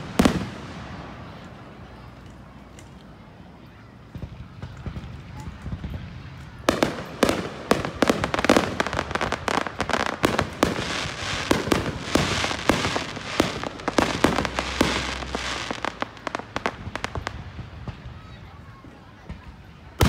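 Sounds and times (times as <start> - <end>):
fireworks cracking and popping: 0.0 - 3.2, 4.0 - 20.0.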